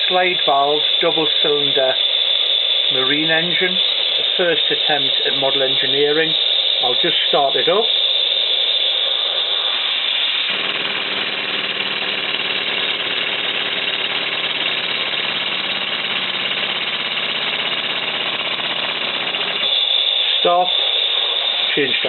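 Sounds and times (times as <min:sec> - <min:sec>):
model steam engine running: 0:00.0 - 0:22.0.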